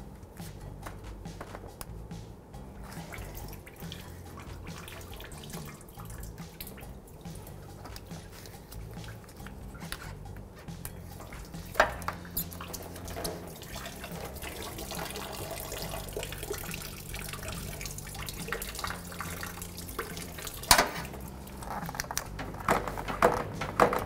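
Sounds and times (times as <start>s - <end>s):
coolant dripping into bucket: 2.9s - 9.7s, 11.2s - 24.0s.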